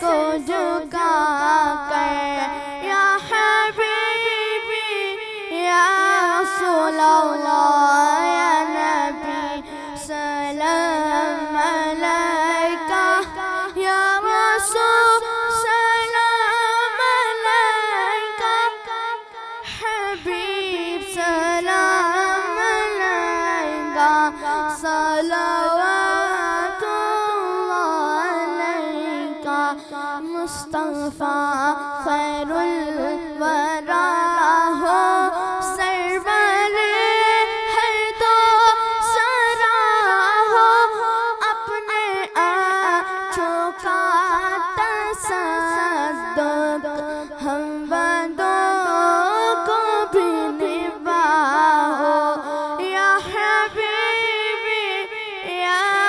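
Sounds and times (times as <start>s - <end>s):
boy singing unaccompanied: 0.0s - 56.0s.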